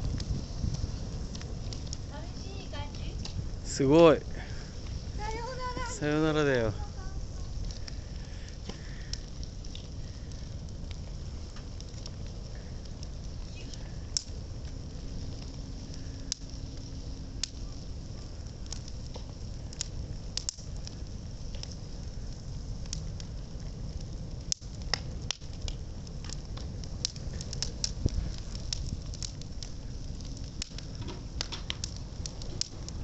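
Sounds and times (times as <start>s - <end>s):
bonfire flame rumble: 0.0s - 33.0s
fire crackling and popping: 0.0s - 33.0s.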